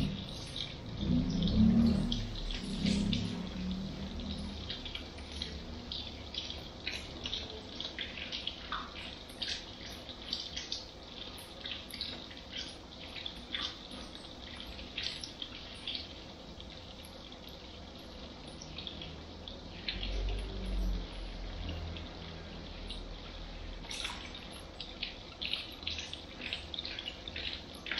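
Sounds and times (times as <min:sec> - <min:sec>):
shower sprayer water splashing: 0:00.0 - 0:27.9.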